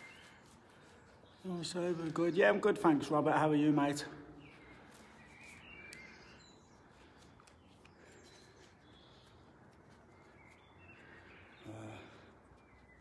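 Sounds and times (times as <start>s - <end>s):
faint bird chirps: 0.0s - 2.1s, 4.0s - 13.0s.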